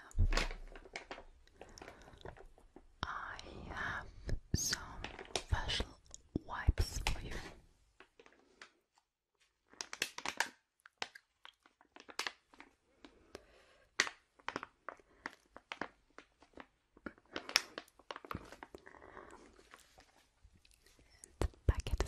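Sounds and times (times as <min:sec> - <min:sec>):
crinkling and crackling: 0:00.0 - 0:22.0.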